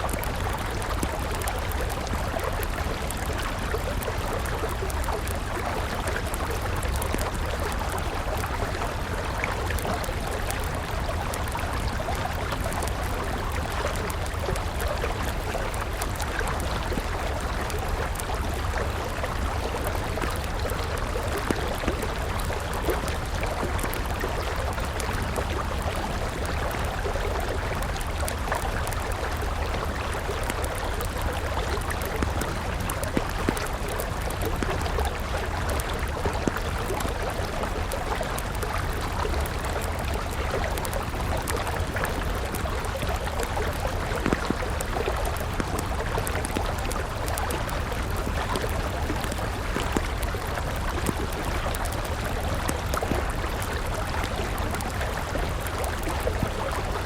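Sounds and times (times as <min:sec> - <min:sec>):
campfire crackling and popping: 0:00.0 - 0:57.0
river water flowing: 0:00.0 - 0:57.0.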